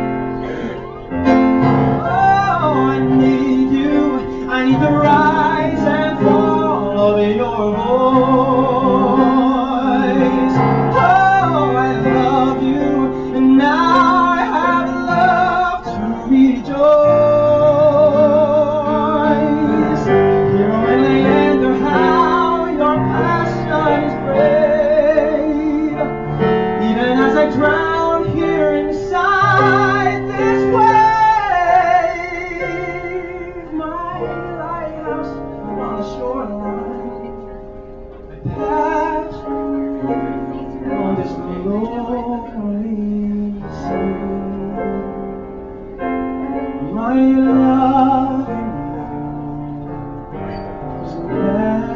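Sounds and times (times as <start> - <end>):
man singing with vibrato: 0.0 - 37.6, 38.4 - 46.0, 46.7 - 51.9
instrumental accompaniment: 0.0 - 51.9.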